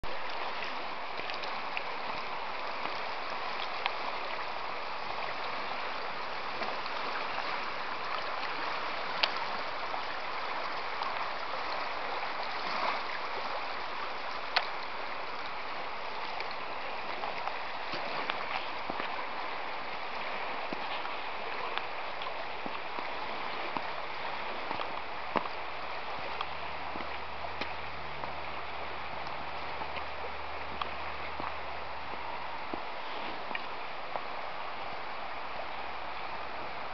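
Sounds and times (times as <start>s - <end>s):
river rushing over stones: 0.0s - 36.9s.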